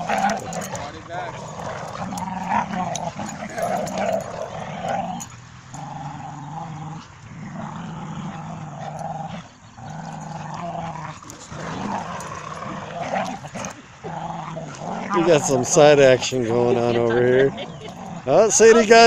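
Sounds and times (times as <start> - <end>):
dogs growling: 0.0 - 19.0.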